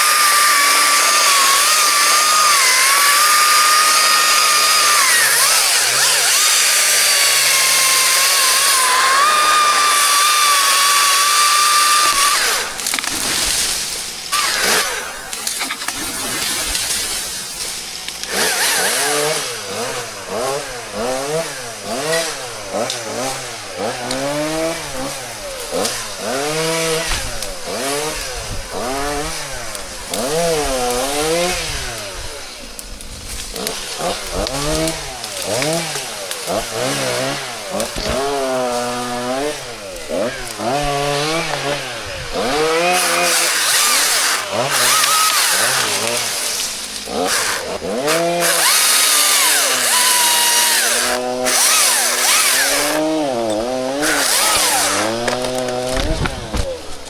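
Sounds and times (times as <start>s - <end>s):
two-stroke chainsaw running: 0.0s - 57.0s.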